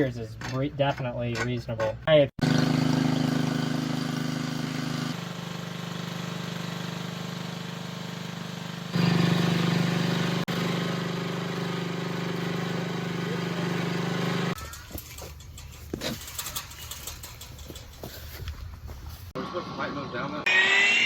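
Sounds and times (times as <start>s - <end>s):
engine running steadily: 2.4s - 21.0s.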